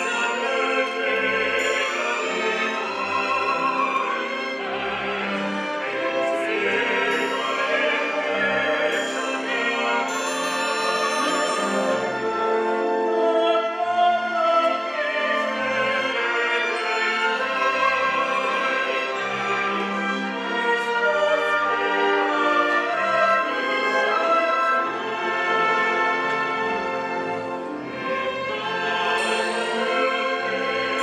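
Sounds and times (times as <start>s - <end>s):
operatic voices singing: 0.0s - 31.0s
symphony orchestra: 0.0s - 31.0s.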